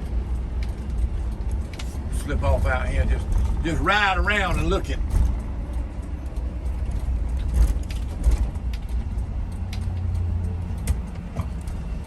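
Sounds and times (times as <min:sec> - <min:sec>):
light clicks and rattles: 0:00.0 - 0:12.0
vehicle engine and road rumble: 0:00.0 - 0:12.0.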